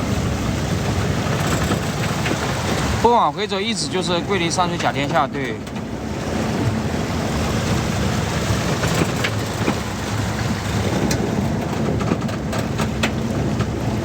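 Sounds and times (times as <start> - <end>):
small boat engine running: 0.0 - 14.0
wind buffeting microphone: 0.0 - 14.0.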